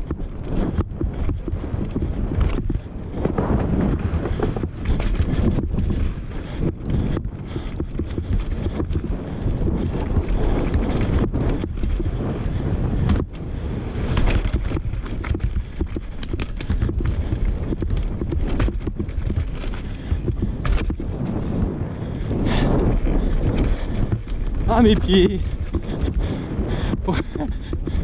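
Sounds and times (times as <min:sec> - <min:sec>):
bike rattles and knocks: 0:00.0 - 0:28.0
bike tyres rumbling on dirt: 0:00.0 - 0:28.0
wind buffeting microphone: 0:00.0 - 0:28.0.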